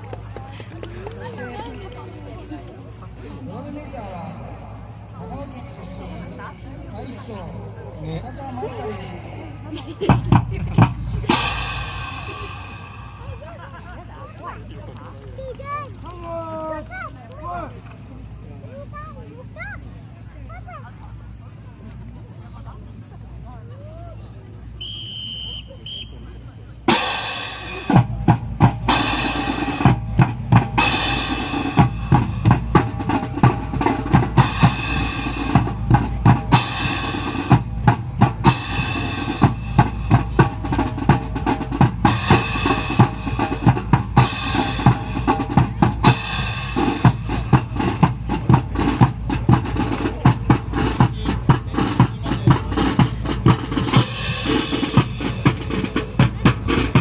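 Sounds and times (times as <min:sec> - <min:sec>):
marching snare and bass drums: 0:00.0 - 0:22.3, 0:24.5 - 0:57.0.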